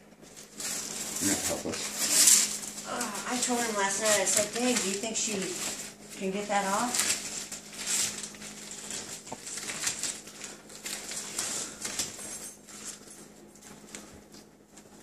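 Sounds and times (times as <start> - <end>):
fabric rustling: 0.2 - 15.0.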